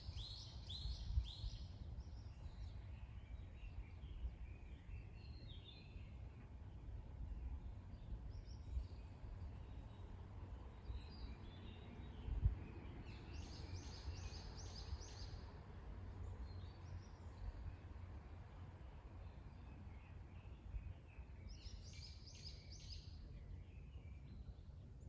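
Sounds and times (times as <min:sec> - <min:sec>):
songbirds singing: 0:00.0 - 0:25.0.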